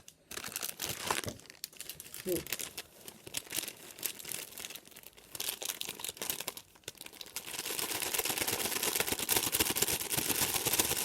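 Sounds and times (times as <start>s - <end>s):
food packaging crinkling: 0.0s - 11.0s.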